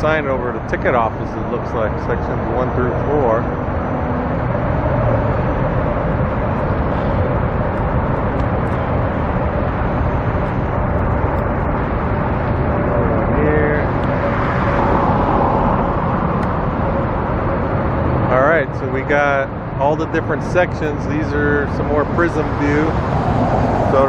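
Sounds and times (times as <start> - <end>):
road traffic noise: 0.0 - 24.0
vehicle passing: 0.0 - 24.0.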